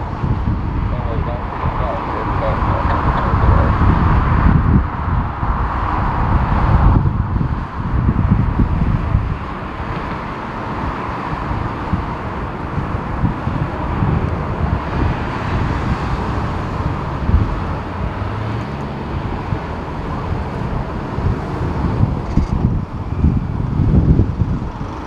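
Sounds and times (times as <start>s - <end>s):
distant jet engine: 0.0s - 25.0s
wind buffeting microphone: 0.0s - 25.0s.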